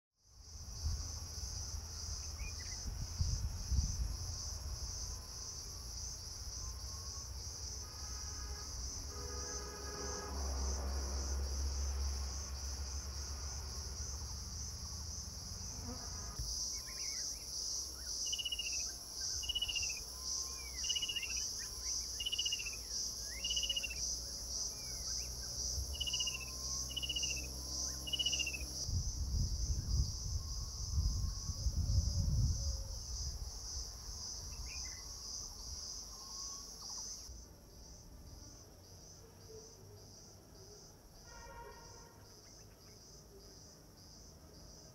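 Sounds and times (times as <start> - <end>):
pulsing insect drone: 0.3 - 41.3.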